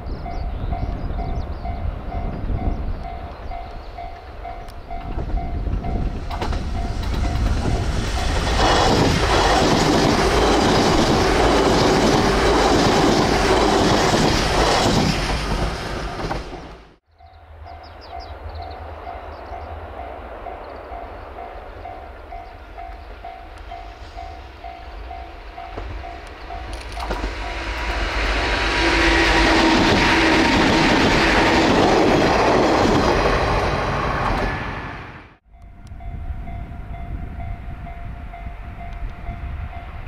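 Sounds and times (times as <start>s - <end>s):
electric train passing: 0.0s - 40.0s.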